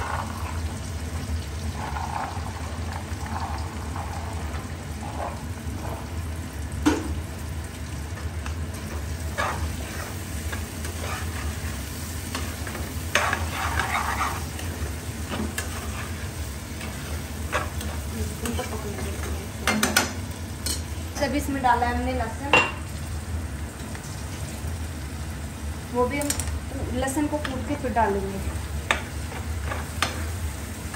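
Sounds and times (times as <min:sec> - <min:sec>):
onions and peas frying in pan: 0:00.0 - 0:30.9.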